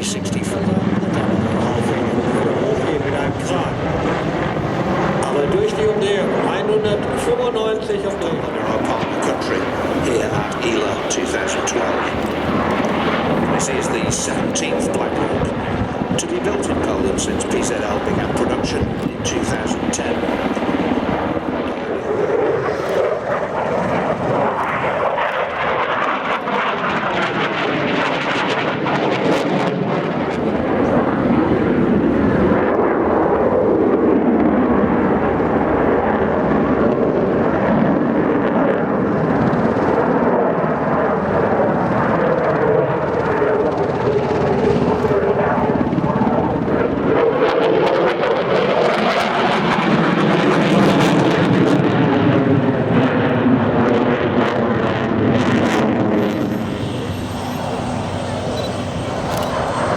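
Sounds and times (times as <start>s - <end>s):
aircraft engine noise: 0.0s - 59.9s.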